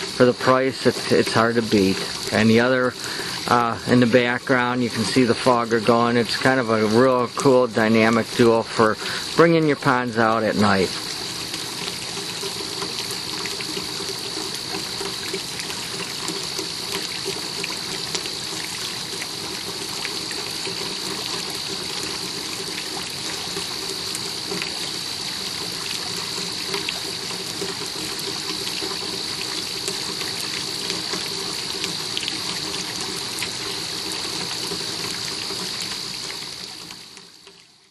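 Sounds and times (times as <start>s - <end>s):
fountain spraying and splashing: 0.0s - 37.9s.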